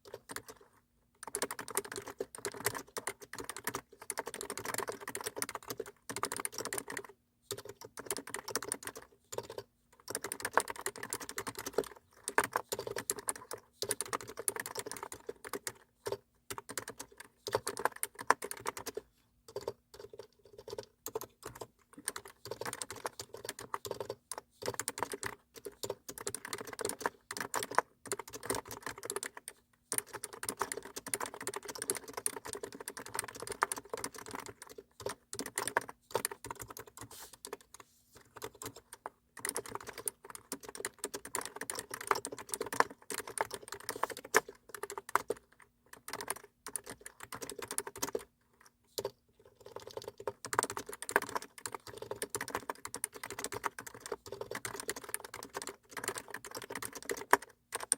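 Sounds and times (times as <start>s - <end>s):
keyboard typing: 0.0s - 57.9s.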